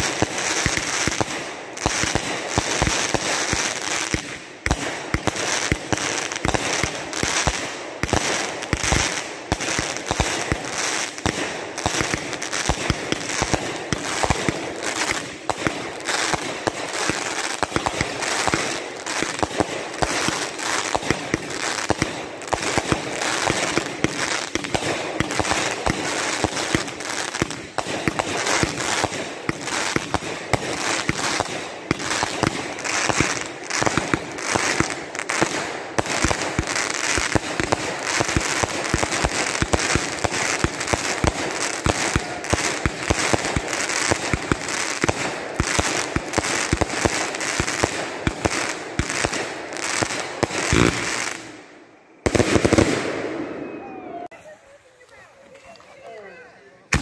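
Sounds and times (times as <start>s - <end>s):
fireworks launching and bursting: 0.0s - 54.4s
fireworks crackling: 0.0s - 57.0s.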